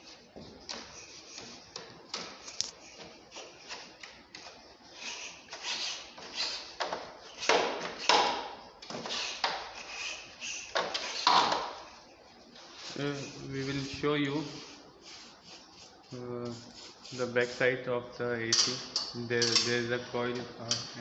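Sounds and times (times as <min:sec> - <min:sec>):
wet brush scrubbing: 0:00.0 - 0:08.1, 0:09.0 - 0:17.8.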